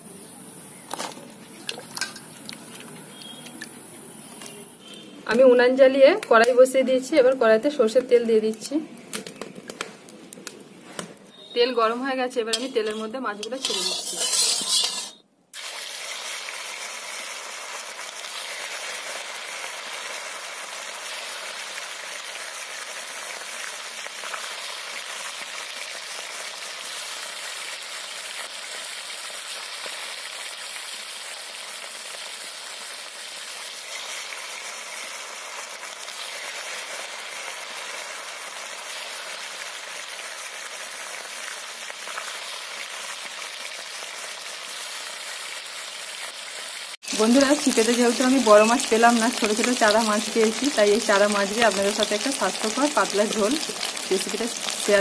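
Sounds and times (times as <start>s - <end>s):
fish sizzling in hot oil: 0.6s - 9.8s, 11.3s - 55.0s.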